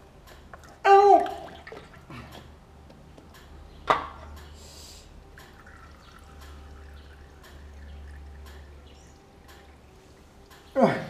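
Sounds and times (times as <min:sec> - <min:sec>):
oil dripping into metal basin: 0:00.0 - 0:04.6, 0:05.2 - 0:10.8.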